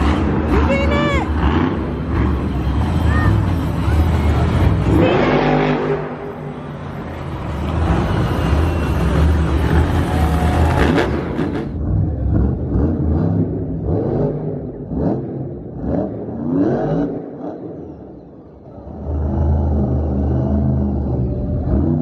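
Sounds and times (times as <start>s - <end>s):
monster truck engines revving: 0.0s - 22.0s.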